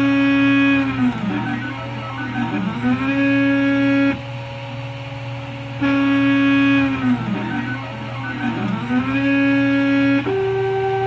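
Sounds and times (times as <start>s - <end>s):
loud steady vibration tone: 0.0s - 11.0s
three-d printer stepper motors whining: 0.0s - 11.0s.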